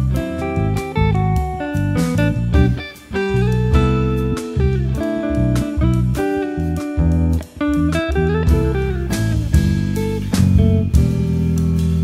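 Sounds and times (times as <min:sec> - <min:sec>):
bass line: 0:00.0 - 0:12.0
plucked guitar notes: 0:00.0 - 0:12.0
drum and cymbal hits: 0:00.1 - 0:12.0.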